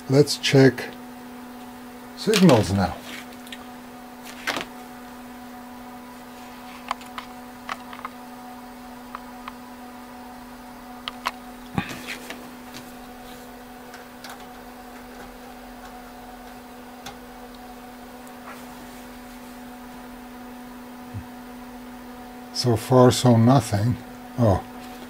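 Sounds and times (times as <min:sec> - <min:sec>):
cooling fan humming: 0:00.0 - 0:25.0.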